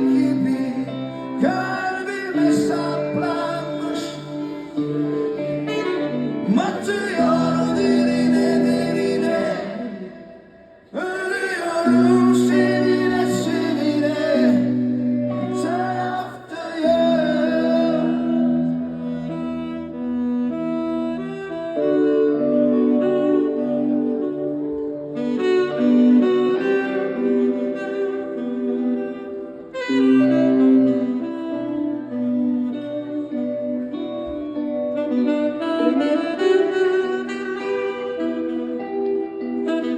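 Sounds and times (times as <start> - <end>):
live band music: 0.0 - 39.9.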